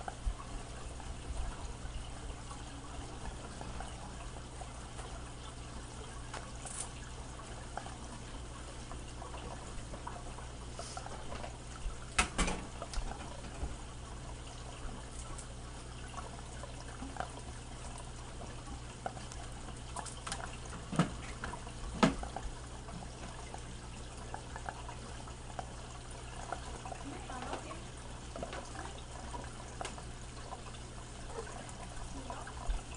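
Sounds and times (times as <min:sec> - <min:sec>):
water trickling: 0:00.0 - 0:32.9.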